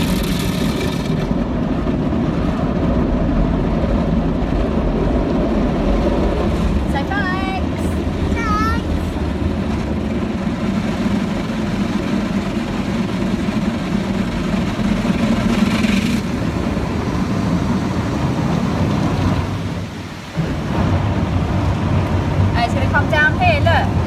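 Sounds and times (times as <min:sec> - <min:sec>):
water spraying on car body: 0:00.0 - 0:08.0, 0:09.2 - 0:24.0
car wash machinery rumbling: 0:00.0 - 0:24.0.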